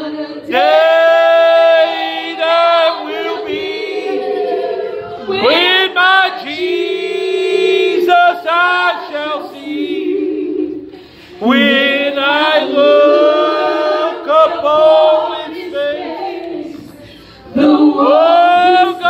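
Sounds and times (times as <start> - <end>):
background voices singing: 0.0 - 19.0.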